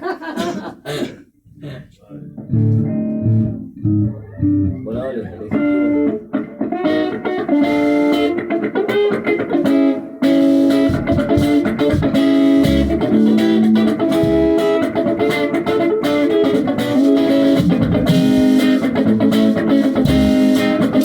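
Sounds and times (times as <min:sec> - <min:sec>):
guitar plucking with bass notes: 0:02.2 - 0:21.0.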